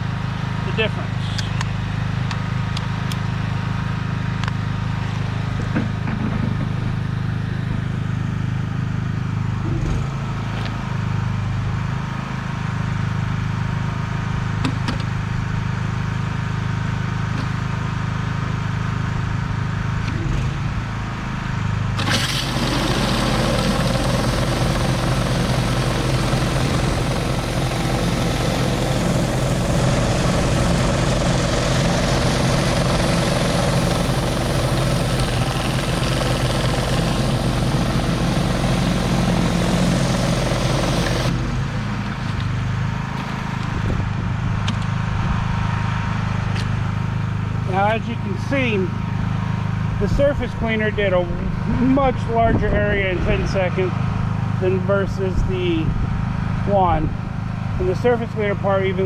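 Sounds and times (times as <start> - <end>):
pressure washer engine running: 0.0 - 52.2.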